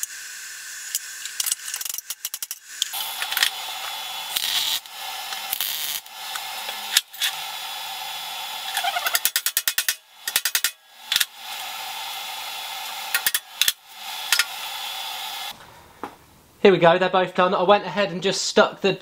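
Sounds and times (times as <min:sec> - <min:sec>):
welding arc buzzing and hissing: 0:00.0 - 0:15.6.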